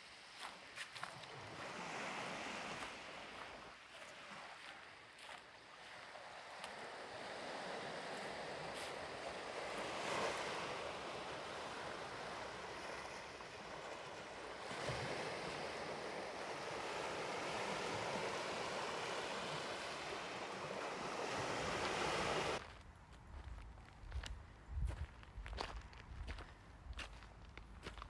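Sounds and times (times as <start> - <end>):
sea waves washing onto beach: 0.0 - 22.6.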